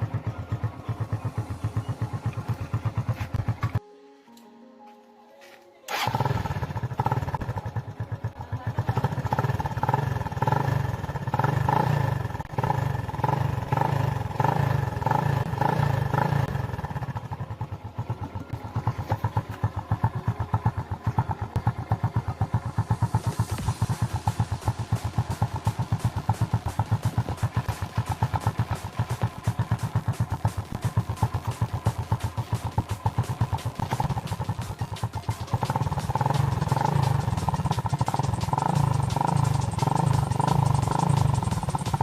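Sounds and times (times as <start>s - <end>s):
motorcycle engine running: 0.0s - 3.8s, 5.9s - 42.0s.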